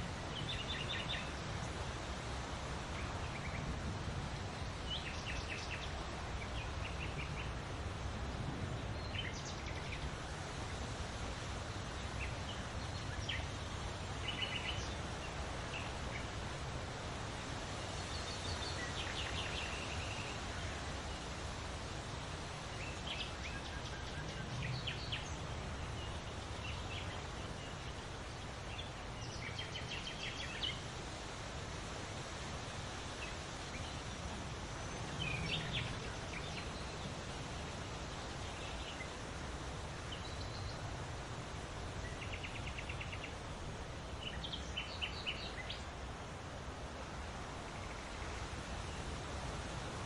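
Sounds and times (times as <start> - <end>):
leaves rustling in wind: 0.0 - 50.0
songbirds chirping: 0.0 - 50.0.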